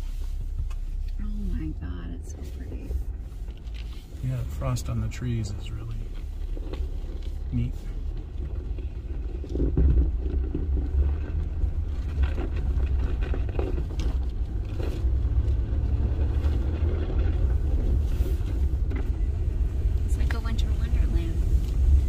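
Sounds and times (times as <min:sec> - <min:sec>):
vehicle engine and tyres rumbling: 0:00.0 - 0:22.0.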